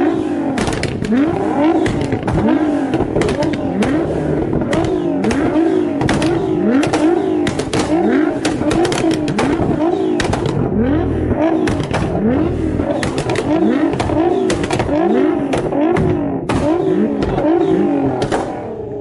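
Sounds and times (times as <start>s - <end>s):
car engine revving: 0.0s - 19.0s
exhaust pops and crackles: 0.5s - 18.7s.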